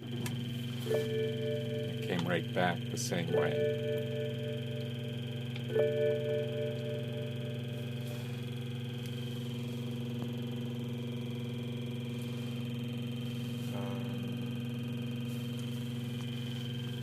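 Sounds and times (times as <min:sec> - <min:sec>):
car radio electronic hum and whine: 0:00.0 - 0:17.0.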